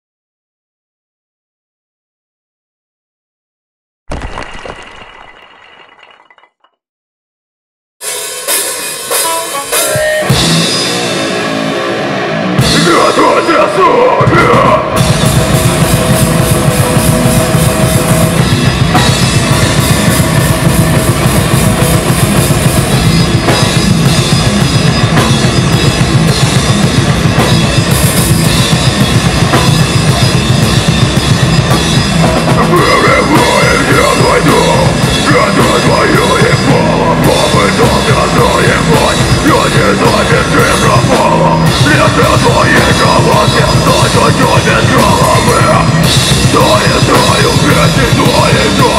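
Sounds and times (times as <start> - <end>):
heavy metal band playing live: 8.0 - 48.9
pounding drum kit: 8.0 - 48.9.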